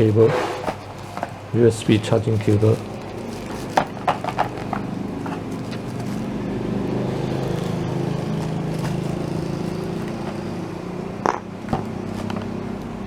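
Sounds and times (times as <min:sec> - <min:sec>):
motor droning hum: 0:00.0 - 0:13.0.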